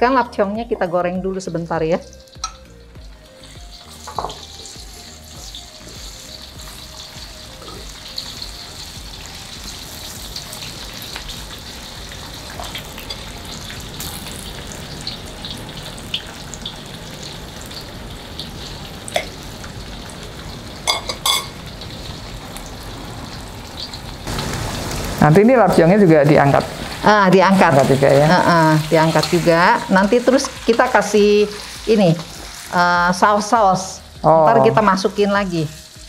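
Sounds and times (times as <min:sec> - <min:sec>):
sausage sizzling in hot oil: 0:01.0 - 0:36.0.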